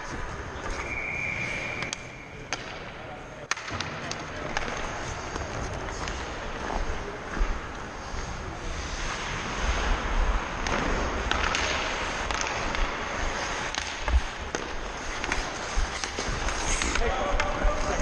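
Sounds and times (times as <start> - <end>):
skates scraping on ice: 0.0 - 2.9, 3.6 - 18.0.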